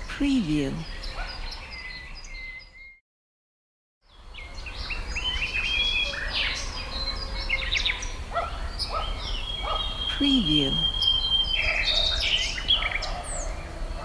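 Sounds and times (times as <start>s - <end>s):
songbirds chirping and whistling: 0.0s - 3.0s, 4.1s - 14.0s.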